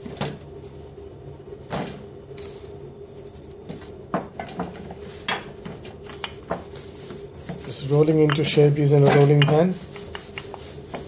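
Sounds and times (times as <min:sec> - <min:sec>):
kitchen hum: 0:00.0 - 0:11.0.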